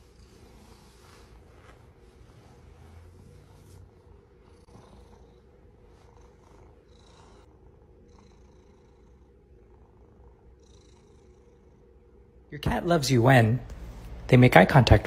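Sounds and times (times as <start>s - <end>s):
cat purring: 0.0s - 12.5s.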